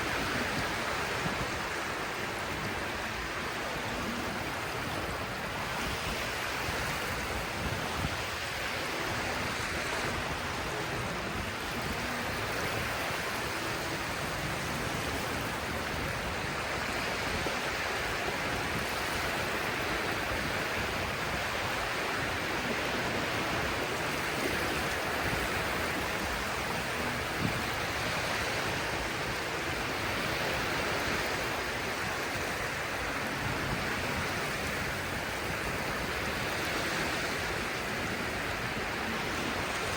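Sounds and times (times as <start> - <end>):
sea waves and surf: 0.0 - 39.9.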